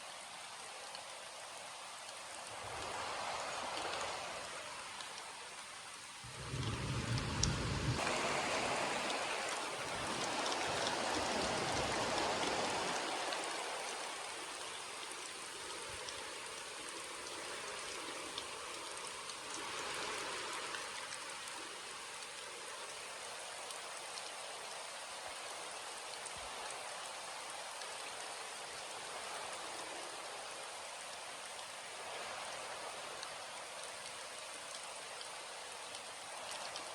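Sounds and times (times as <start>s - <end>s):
rain pattering on surfaces: 0.0s - 36.9s.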